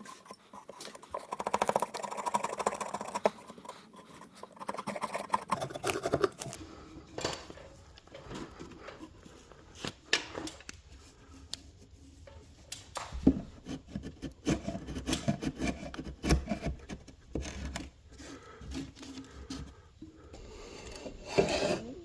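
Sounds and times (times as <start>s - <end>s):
wood rubbing and scraping: 0.0s - 22.0s.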